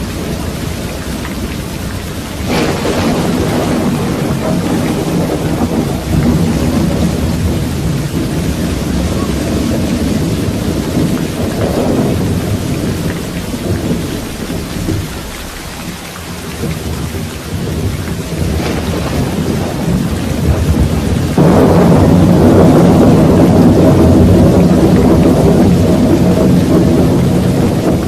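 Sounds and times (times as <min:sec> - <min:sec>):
steady rain: 0:00.0 - 0:28.0
thunder rumbling: 0:00.0 - 0:28.0.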